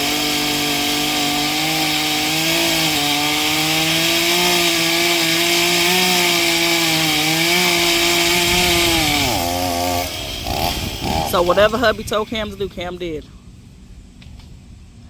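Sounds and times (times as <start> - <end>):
chainsaw cutting wood: 0.0 - 12.8.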